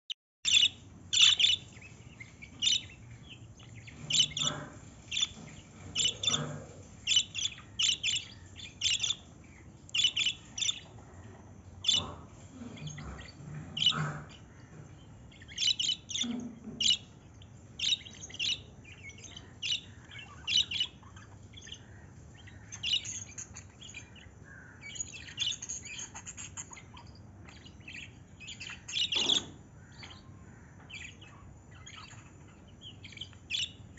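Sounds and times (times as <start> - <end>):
birds chirping: 0.4 - 33.9.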